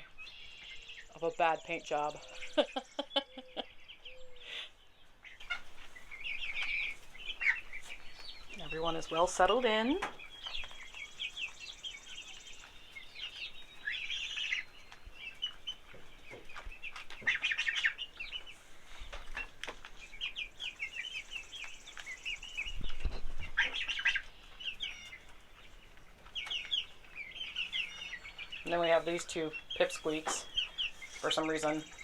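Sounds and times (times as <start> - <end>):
chicks peeping and chirping: 0.0 - 32.0.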